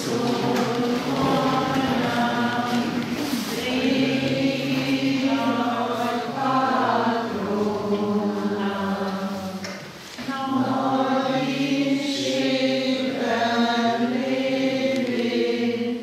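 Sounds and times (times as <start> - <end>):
group singing a hymn: 0.0 - 16.0.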